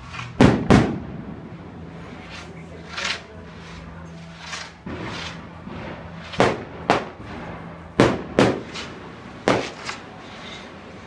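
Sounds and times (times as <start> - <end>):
faint fireworks crackling: 0.0 - 11.0
fireworks banging: 0.0 - 11.0.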